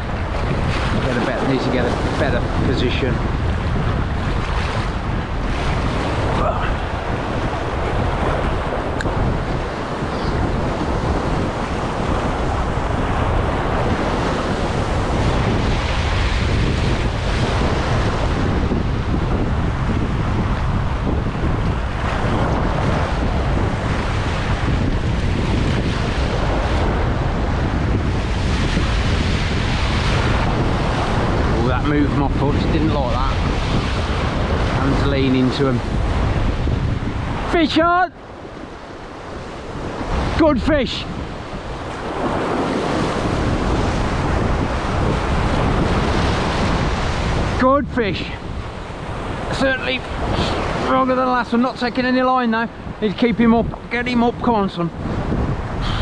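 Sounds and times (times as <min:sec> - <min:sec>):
sea surf rushing: 0:00.0 - 0:56.0
wind buffeting microphone: 0:00.0 - 0:56.0.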